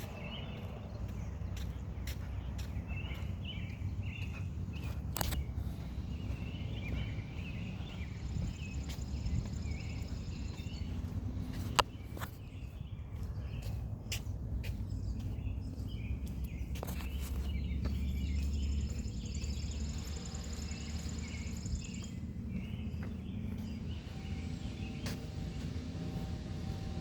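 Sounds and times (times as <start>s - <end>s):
footstep crunches: 0.0s - 26.8s
small birds chirping: 0.0s - 27.0s
wind rumbling on microphone: 0.0s - 27.0s.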